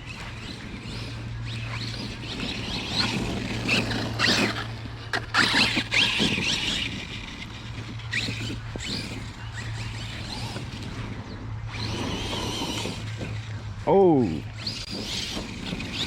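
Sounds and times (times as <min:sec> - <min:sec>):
electric motor whining: 0:00.0 - 0:16.0
tyres churning on wet ground: 0:00.0 - 0:16.0.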